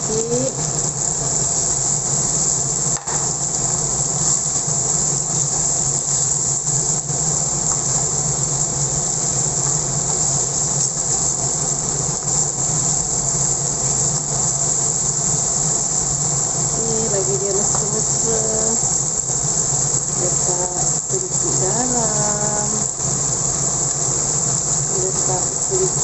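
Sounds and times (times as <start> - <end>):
food sizzling and bubbling in wok: 0.0 - 26.0.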